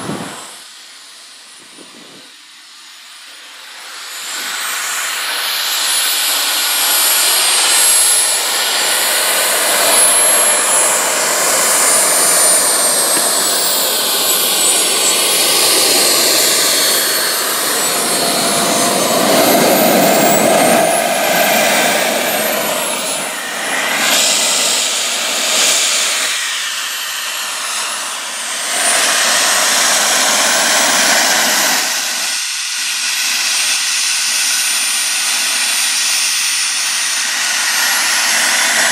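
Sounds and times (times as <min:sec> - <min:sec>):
model jet turbines whining: 0:00.0 - 0:38.9.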